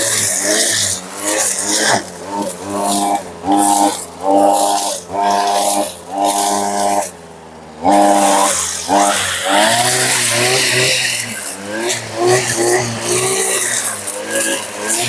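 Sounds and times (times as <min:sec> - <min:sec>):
brushcutter revving: 0:00.0 - 0:15.0.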